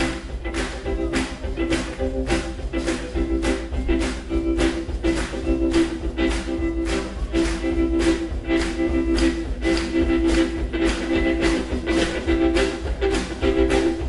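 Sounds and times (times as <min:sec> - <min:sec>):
drums: 0:00.0 - 0:14.0
electric guitar: 0:00.0 - 0:14.0
instrumental rockabilly band: 0:00.0 - 0:14.0
upright bass: 0:00.0 - 0:14.0.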